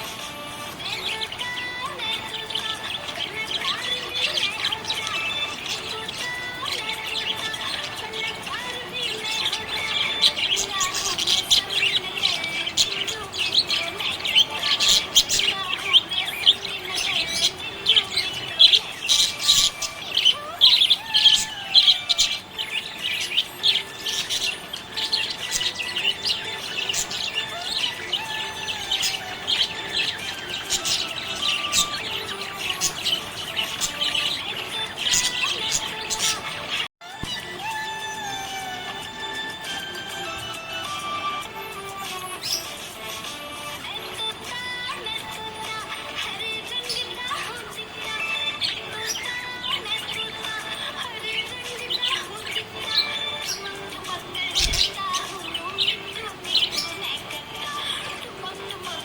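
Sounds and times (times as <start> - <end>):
budgerigar chirping and warbling: 0.0 - 41.5, 42.3 - 59.0.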